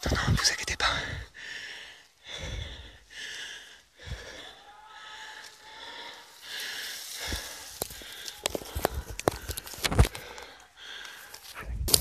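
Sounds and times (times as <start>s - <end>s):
man panting: 0.8s - 11.5s.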